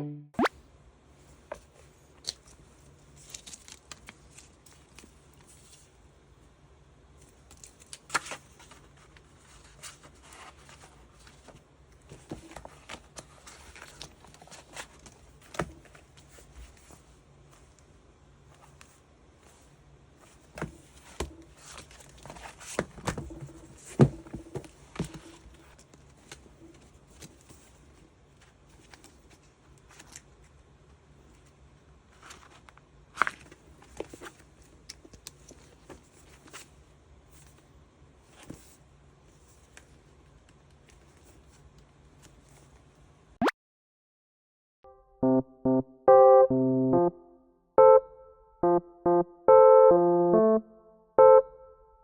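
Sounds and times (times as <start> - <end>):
faint low room hum: 0.0 - 43.4.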